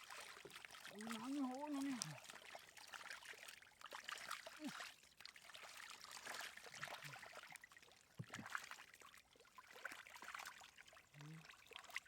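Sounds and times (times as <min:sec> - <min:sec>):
small splashes and clicks: 0:00.0 - 0:12.0
water trickling: 0:00.0 - 0:12.0.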